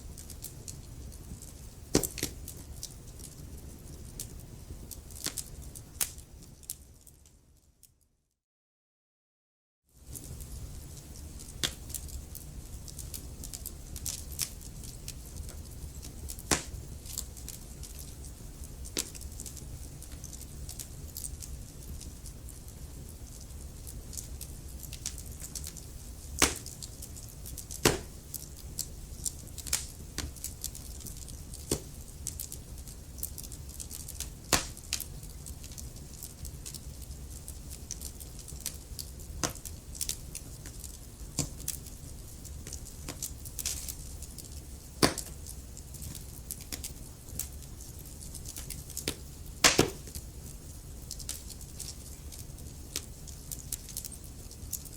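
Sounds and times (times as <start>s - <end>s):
wood fire crackling and popping: 0.0s - 8.0s, 10.0s - 54.9s.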